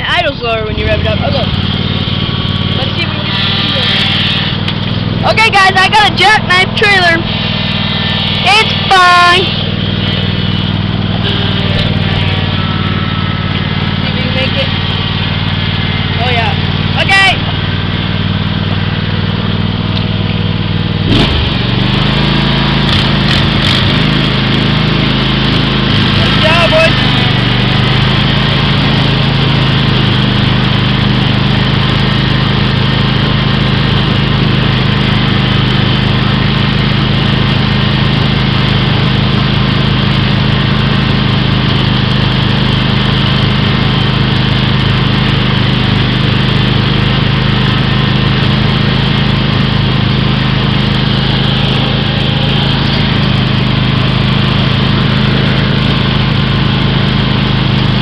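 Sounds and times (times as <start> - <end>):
riding lawn mower running: 0.0 - 58.0.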